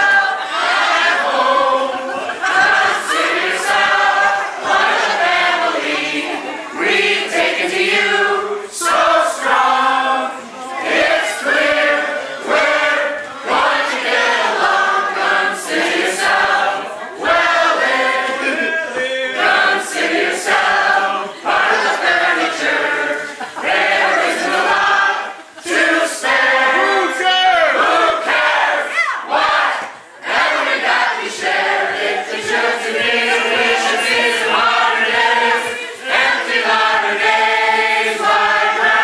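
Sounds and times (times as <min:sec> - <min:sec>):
group singing together: 0:00.0 - 0:39.0.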